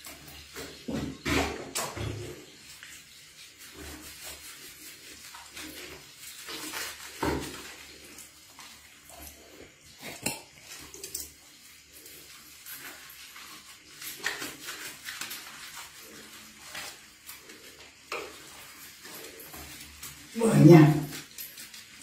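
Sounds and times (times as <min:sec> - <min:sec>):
hands scrubbing wet fur: 0:00.0 - 0:22.0.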